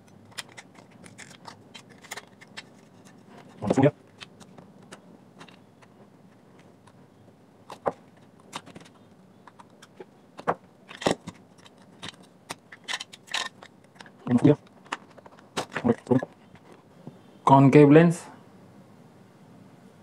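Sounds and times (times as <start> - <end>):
plastic parts handled: 0.0 - 7.0, 7.6 - 16.9.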